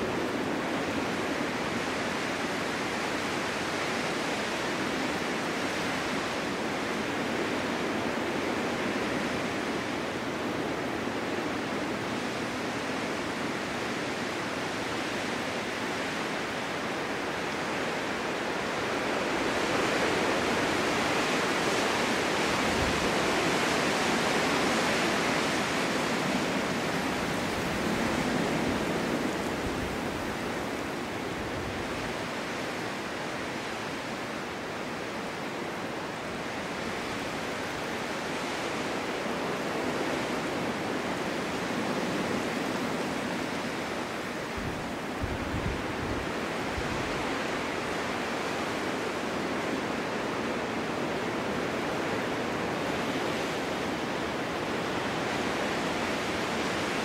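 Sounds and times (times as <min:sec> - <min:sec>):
snowstorm wind rushing: 0:00.0 - 0:57.0.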